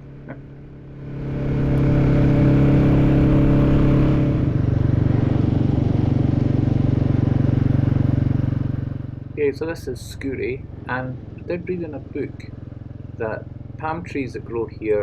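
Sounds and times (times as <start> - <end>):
motorcycle engine pulling hard: 0.1 - 15.0.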